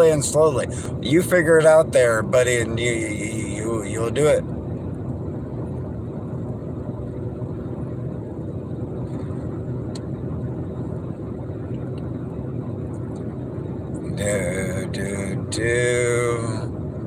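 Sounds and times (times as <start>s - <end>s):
road and engine noise inside vehicle: 0.0s - 17.0s.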